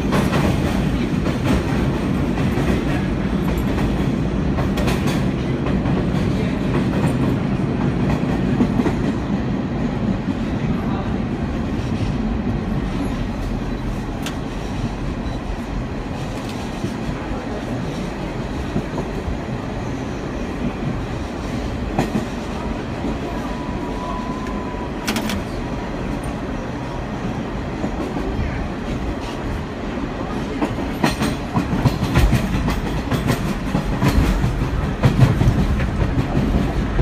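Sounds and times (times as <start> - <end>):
clickety-clack over rail joints: 0.0 - 19.6, 20.5 - 26.4, 27.6 - 37.0
train wheels and motors rumbling: 0.0 - 37.0.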